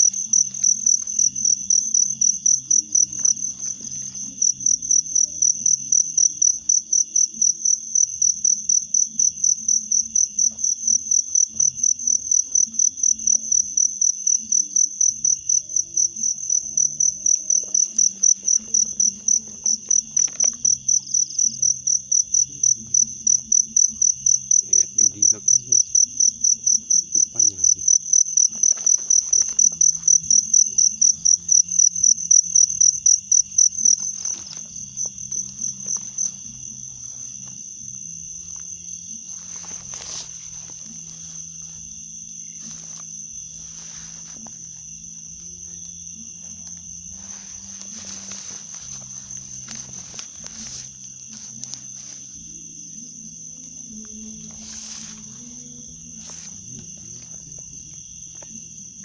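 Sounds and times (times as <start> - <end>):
insect chirping: 0.0 - 59.0
insect trilling: 0.0 - 59.0.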